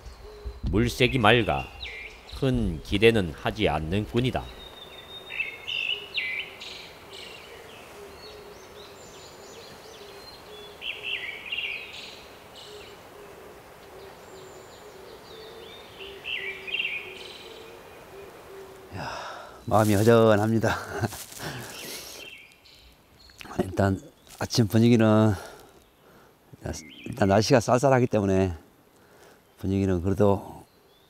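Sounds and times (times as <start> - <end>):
songbird singing chirped phrases: 0.0 - 31.0.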